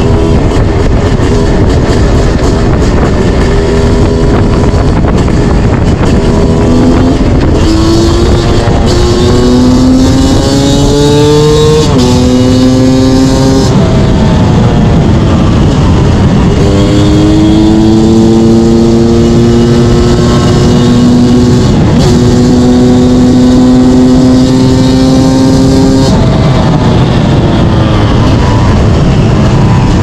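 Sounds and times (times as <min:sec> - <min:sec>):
two-stroke engine revving: 0:00.0 - 0:26.8.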